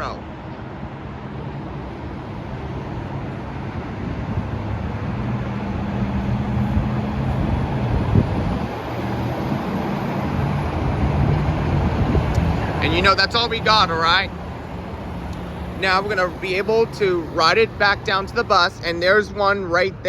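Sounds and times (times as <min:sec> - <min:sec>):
train low rumble: 0:00.0 - 0:19.4.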